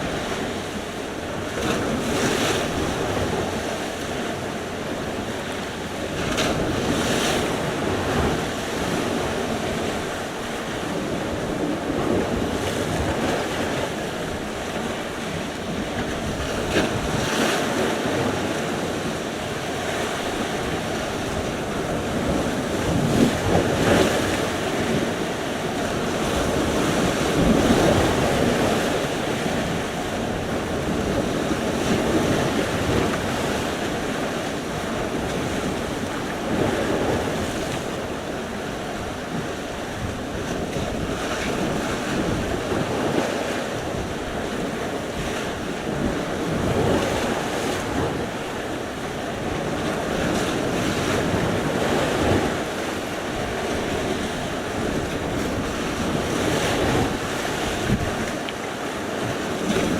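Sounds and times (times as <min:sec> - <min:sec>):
waves breaking on shore: 0:00.0 - 0:59.9
wind buffeting microphone: 0:00.0 - 0:59.9.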